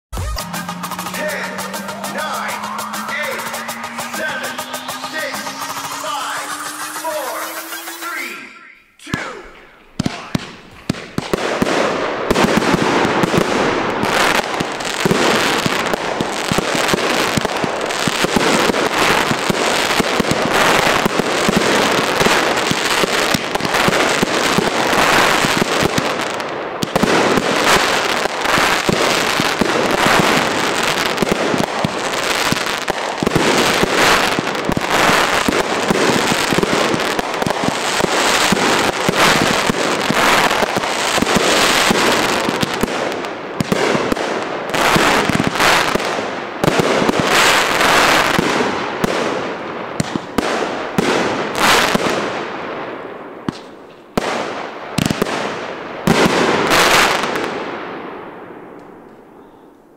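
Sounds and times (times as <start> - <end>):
fireworks bangs and crackling: 0.1 - 59.1.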